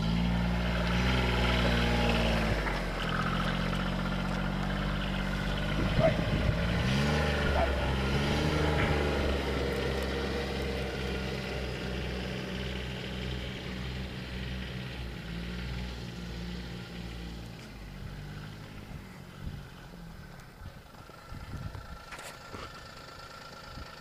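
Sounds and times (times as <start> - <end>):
utility vehicle engine humming: 0.0 - 24.0.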